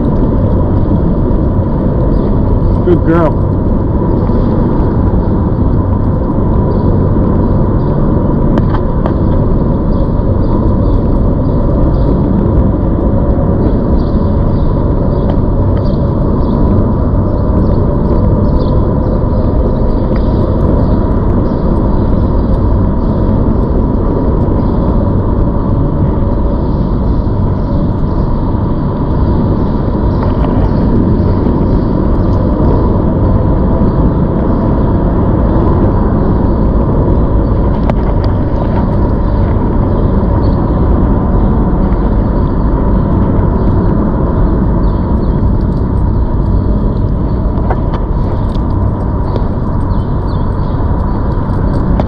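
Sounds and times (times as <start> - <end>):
wind and road noise on microphone: 0.0 - 52.0.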